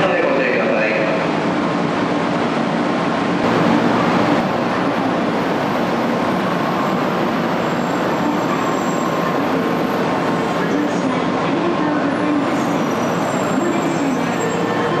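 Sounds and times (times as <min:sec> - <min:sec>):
faint hum of standing trains: 0:00.0 - 0:15.0
train rumble and hiss: 0:00.0 - 0:15.0.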